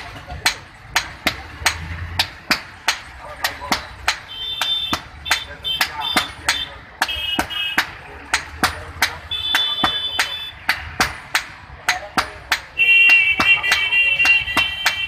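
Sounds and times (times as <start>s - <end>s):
hammer striking hot iron on anvil: 0.0s - 15.0s.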